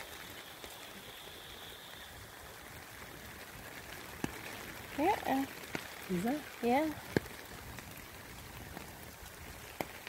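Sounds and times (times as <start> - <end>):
heavy rain on water: 0.0 - 10.0.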